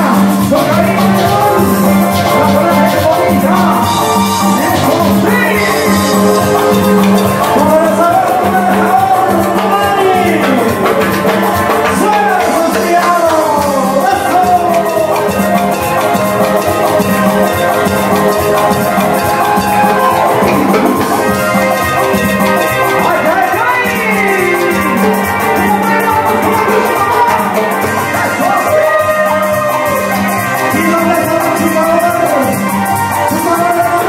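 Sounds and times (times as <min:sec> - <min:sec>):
loud dance music: 0:00.0 - 0:34.0.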